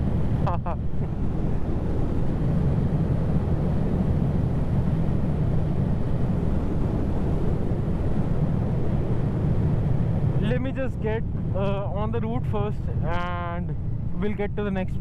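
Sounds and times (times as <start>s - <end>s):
motorcycle engine drone: 0.0s - 15.0s
road noise: 0.0s - 15.0s
wind noise: 0.0s - 15.0s.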